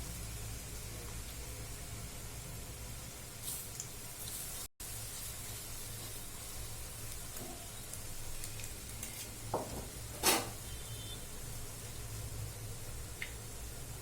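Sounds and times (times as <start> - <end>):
fritters sizzling in hot oil: 0.0 - 14.0.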